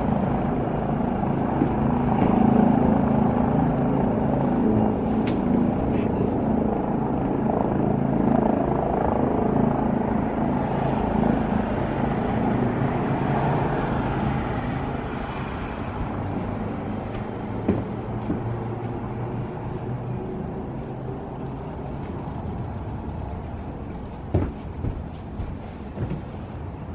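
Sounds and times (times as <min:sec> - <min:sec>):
helicopter rotor and engine: 0:00.0 - 0:26.9.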